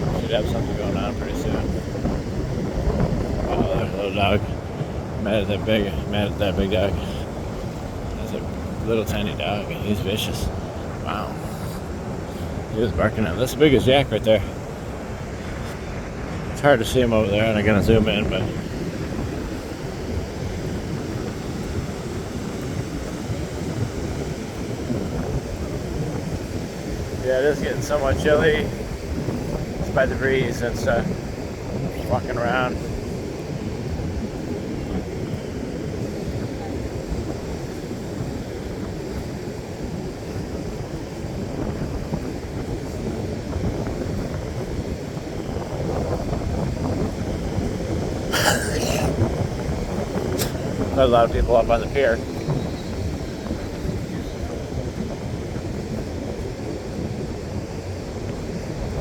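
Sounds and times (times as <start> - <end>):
surf: 0.0 - 59.0
wind buffeting microphone: 0.0 - 59.0.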